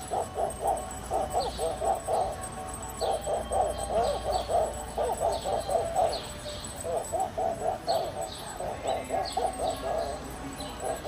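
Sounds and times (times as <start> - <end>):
toy playing high pitched tune: 0.0 - 11.0.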